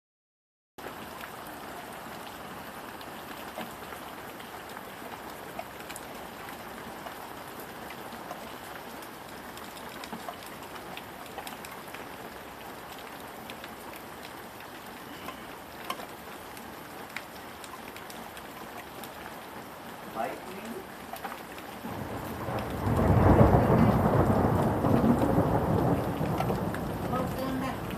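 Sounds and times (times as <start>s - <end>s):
rain falling: 0.8s - 27.9s
raindrops ticking: 0.8s - 27.9s.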